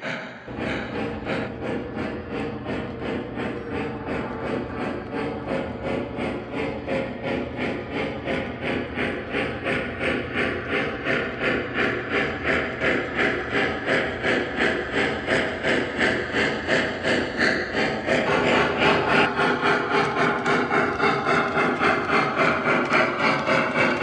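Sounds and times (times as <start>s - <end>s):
model steam locomotive chuffing: 0.0s - 24.0s
wheels rumbling on track: 0.5s - 24.0s.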